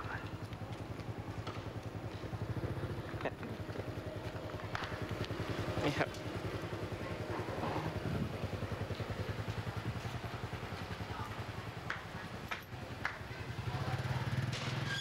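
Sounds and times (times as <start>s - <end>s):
motor scooter engine running: 0.0s - 15.0s.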